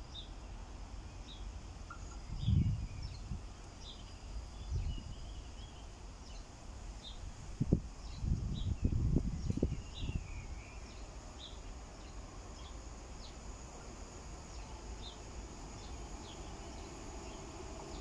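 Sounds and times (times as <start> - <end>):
small birds chirping: 0.0 - 7.3, 7.9 - 13.7, 14.4 - 18.0
low steady hiss: 0.0 - 18.0.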